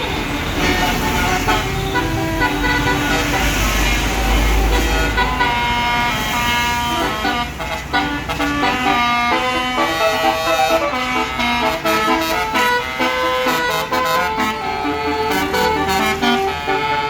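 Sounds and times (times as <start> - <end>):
multi-tone bus air horn melody: 0.0 - 17.0.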